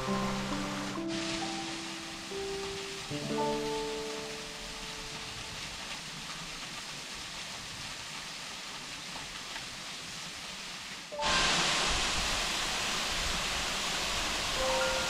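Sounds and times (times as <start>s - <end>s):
waterfall rushing: 0.0s - 9.3s, 10.3s - 15.0s.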